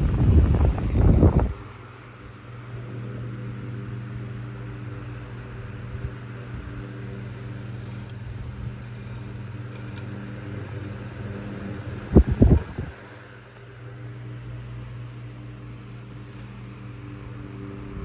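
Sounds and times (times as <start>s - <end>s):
air rushing from fan blades: 0.0s - 18.0s
electric fan motor hum: 0.0s - 18.0s.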